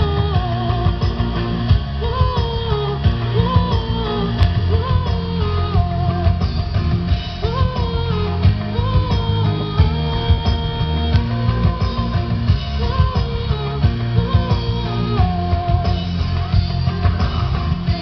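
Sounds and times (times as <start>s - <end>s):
woman singing: 0.0s - 16.8s
bass: 0.0s - 18.0s
guitar: 0.0s - 18.0s.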